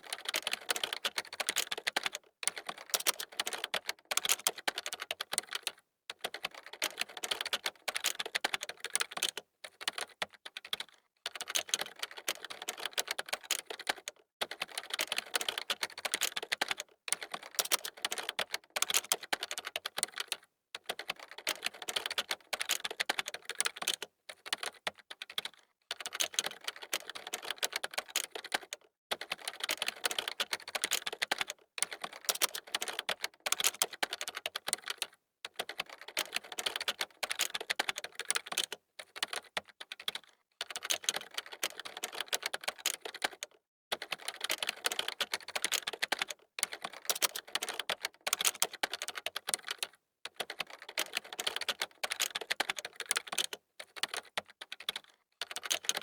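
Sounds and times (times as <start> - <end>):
fast typing on a keyboard: 0.0 - 56.0.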